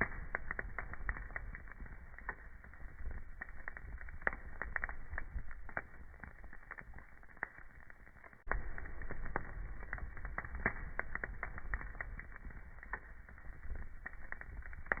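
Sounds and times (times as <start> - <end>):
sharp pops and snaps: 0.0 - 15.0
wood fire crackling: 0.0 - 15.0.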